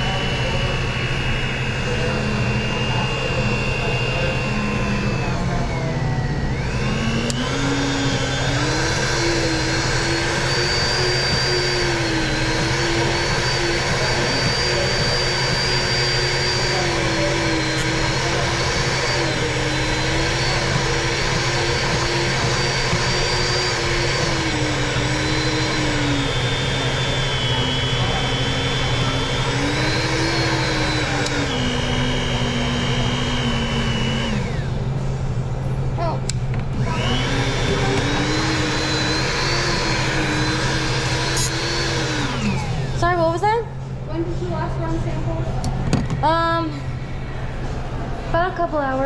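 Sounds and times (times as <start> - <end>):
milkshake mixer motor whine: 0.0 - 49.0.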